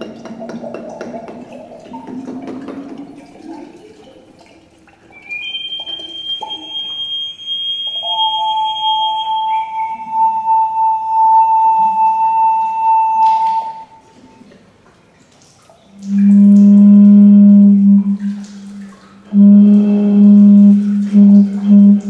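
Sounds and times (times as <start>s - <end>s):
water instrument pure tones: 0.0s - 14.6s, 15.8s - 22.0s.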